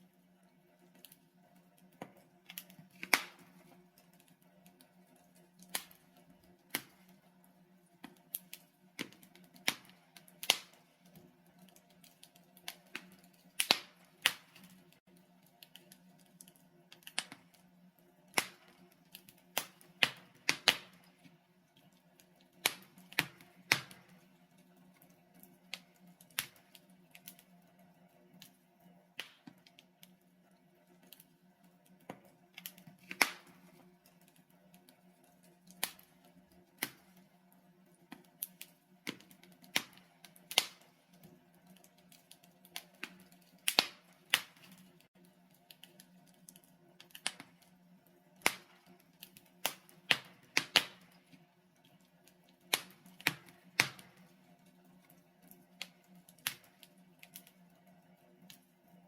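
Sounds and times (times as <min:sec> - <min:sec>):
logs crackling in fireplace: 0:00.0 - 0:59.0.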